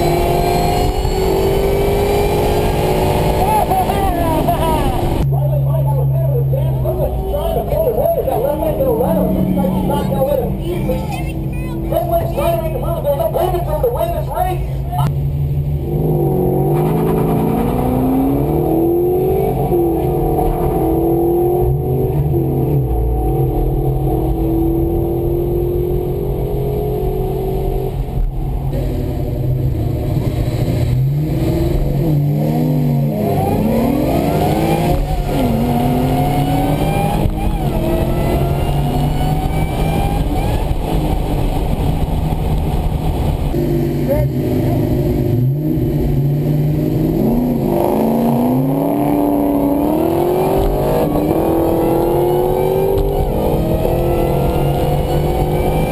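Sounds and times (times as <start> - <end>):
car engine revving and accelerating: 0.0 - 55.9.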